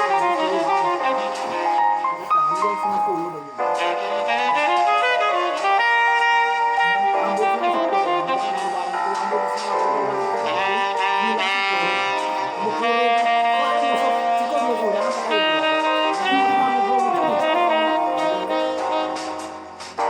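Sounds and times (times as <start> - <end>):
jazz music with saxophone and brass: 0.0 - 20.0.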